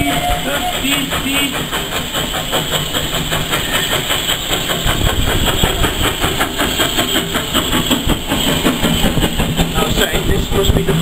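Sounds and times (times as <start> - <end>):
steam hissing: 0.0 - 11.0
steam locomotive chuffing: 0.0 - 11.0.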